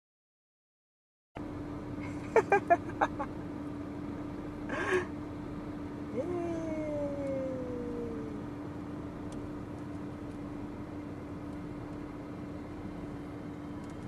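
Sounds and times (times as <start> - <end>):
car interior hum: 1.4 - 14.0.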